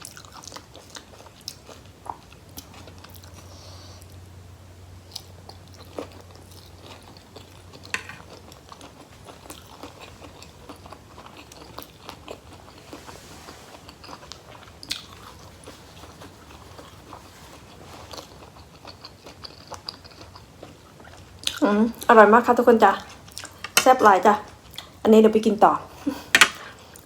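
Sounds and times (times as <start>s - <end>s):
person chewing and crunching food: 0.0s - 22.1s, 23.0s - 23.8s.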